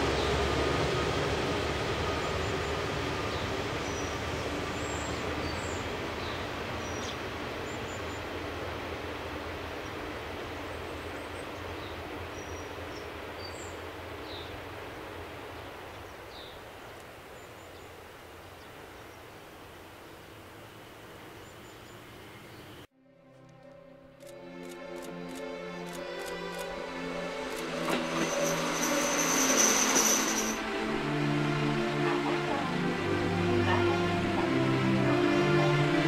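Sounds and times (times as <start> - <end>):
diesel train passing: 0.0 - 36.0.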